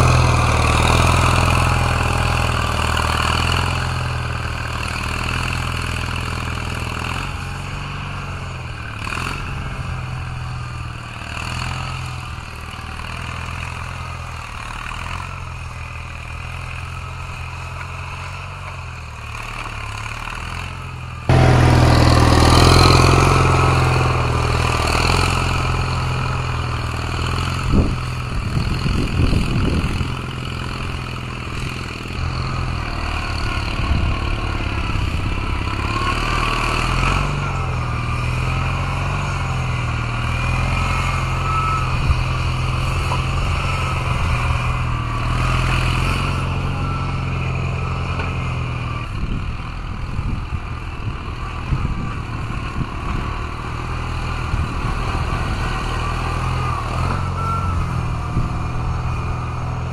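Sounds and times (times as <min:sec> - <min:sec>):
skid steer engine running: 0:00.0 - 0:59.9.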